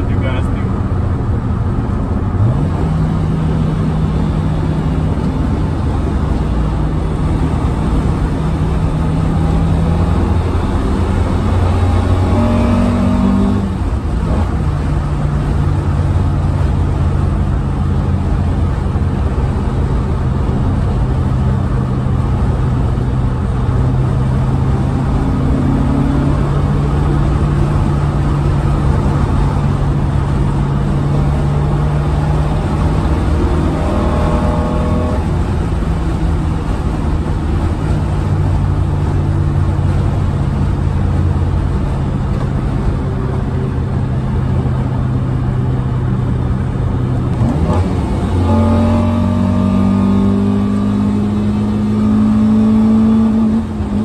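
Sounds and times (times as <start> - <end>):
car engine drone: 0.0 - 54.0
road rumble: 0.0 - 54.0.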